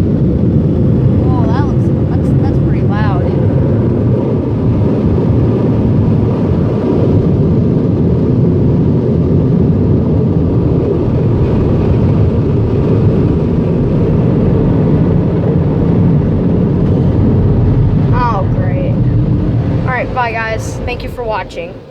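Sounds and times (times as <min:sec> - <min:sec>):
car wash air dryers blowing: 0:00.0 - 0:21.9.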